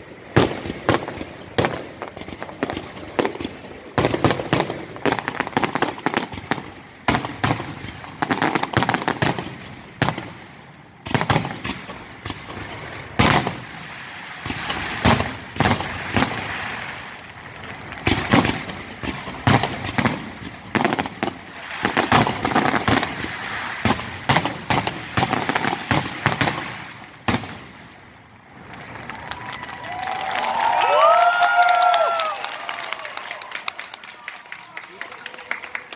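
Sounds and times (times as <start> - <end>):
fireworks bangs and crackling: 0.0 - 35.9.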